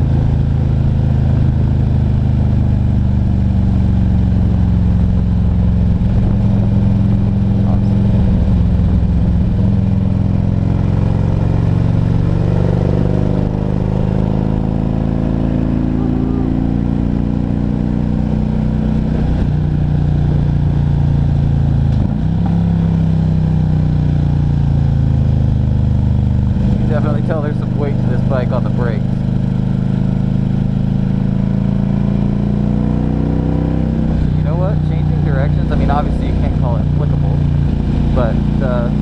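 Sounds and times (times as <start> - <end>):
motorcycle engine running: 0.0 - 39.0
road and wind noise: 0.0 - 39.0.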